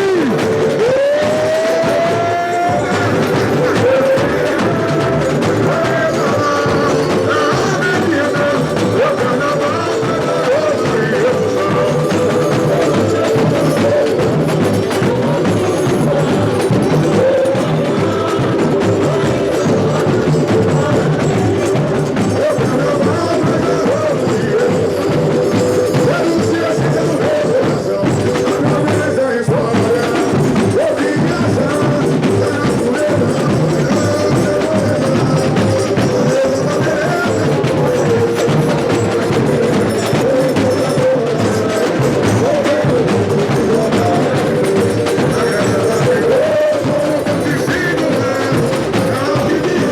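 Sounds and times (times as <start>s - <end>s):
samba drums and percussion: 0.0s - 49.9s.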